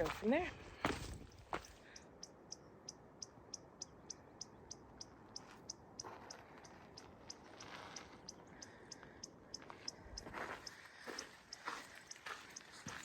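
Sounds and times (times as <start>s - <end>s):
animal chirping: 1.9s - 13.0s.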